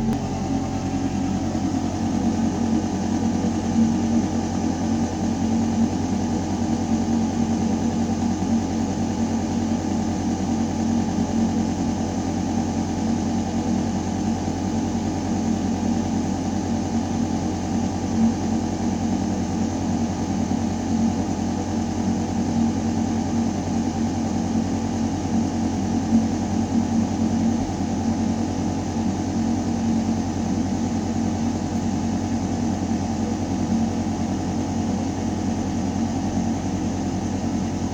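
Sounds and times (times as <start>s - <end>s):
ventilation fan humming in ductwork: 0.0s - 37.9s.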